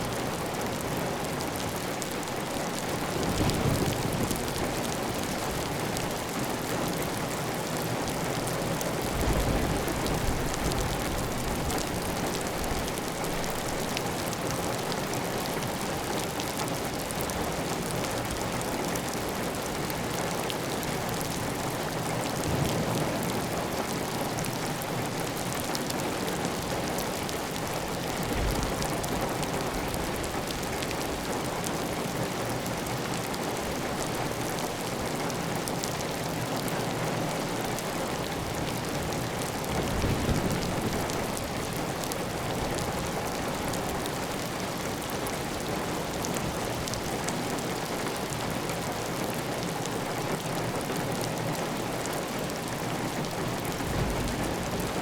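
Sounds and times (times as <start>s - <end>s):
heavy rain on a tile roof: 0.0s - 55.0s.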